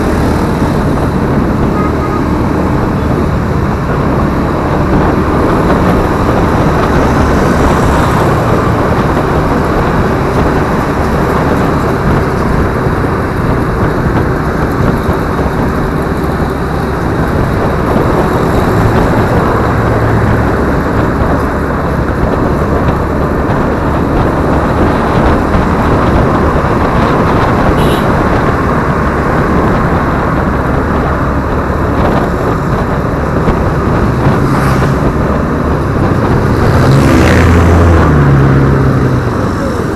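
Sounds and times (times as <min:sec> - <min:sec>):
road traffic: 0:00.0 - 0:39.9
scooter engine: 0:00.0 - 0:39.9
wind on microphone: 0:00.0 - 0:39.9.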